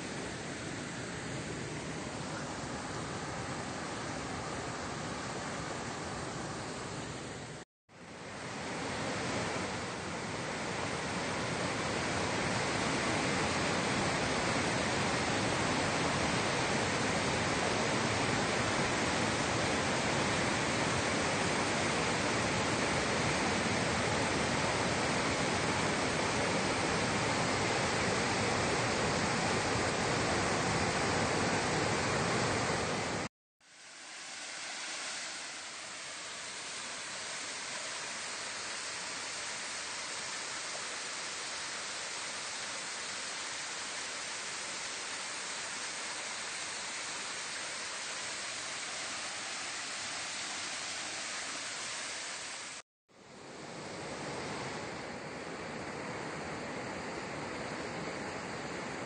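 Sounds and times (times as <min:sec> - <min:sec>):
mountain stream rushing over boulders: 0:00.0 - 0:59.0.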